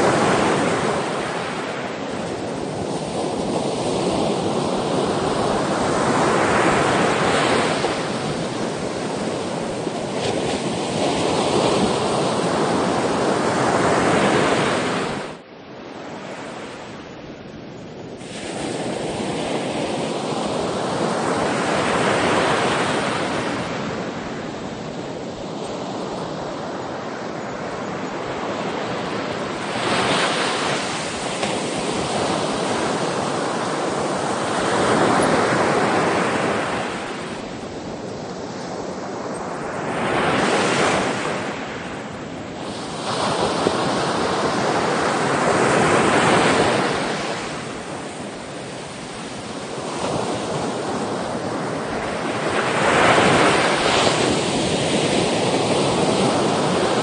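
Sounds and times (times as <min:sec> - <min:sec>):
sea waves breaking ashore: 0:00.0 - 0:17.4, 0:18.0 - 0:57.0.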